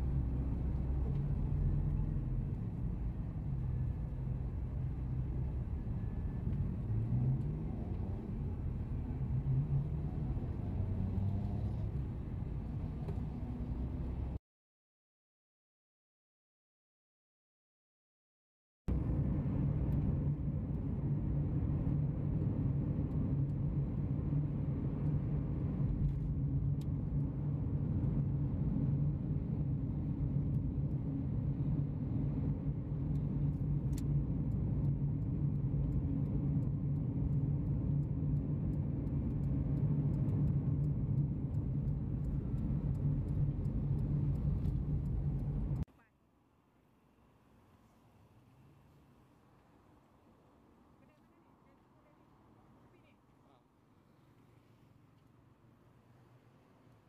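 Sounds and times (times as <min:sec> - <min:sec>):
vehicle engine and road noise: 0:00.0 - 0:14.4, 0:18.9 - 0:57.0.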